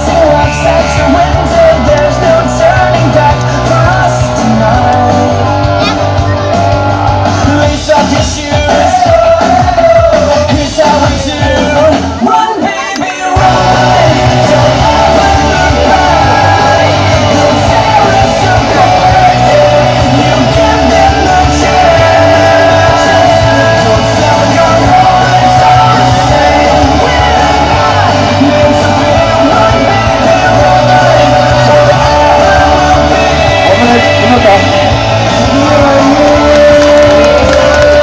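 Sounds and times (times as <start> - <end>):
loud rock music: 0.0 - 38.0
singing and shouted vocals: 0.0 - 38.0.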